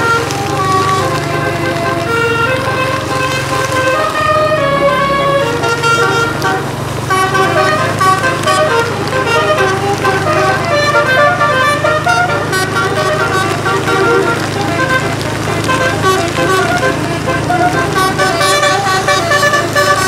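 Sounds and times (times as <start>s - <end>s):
multi-tone air horn tune: 0.0s - 20.0s.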